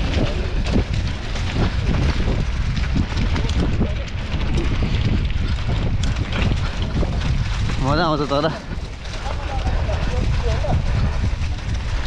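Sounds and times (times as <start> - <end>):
bike rattling: 0.0 - 12.0
wind buffeting microphone: 0.0 - 12.0.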